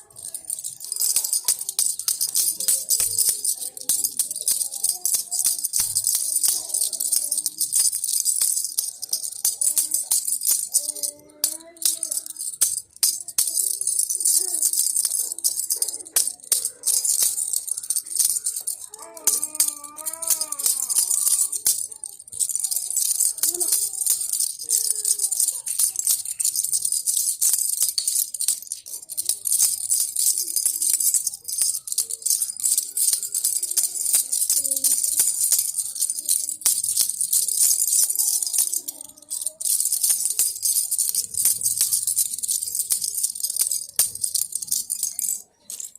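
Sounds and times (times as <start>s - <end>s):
baby rattle shaking: 0.0s - 45.9s.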